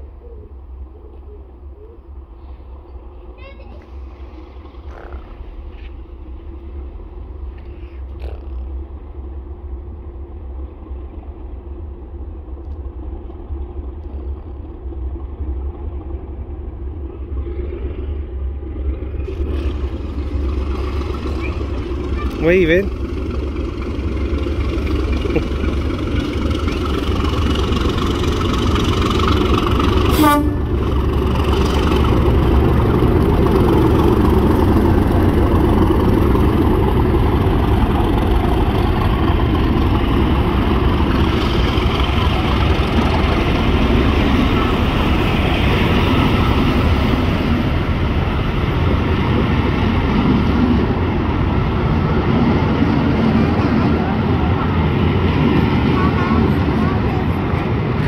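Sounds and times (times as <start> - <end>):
diesel locomotive engine: 0.0 - 58.0
train wheels rumbling on rails: 0.0 - 58.0.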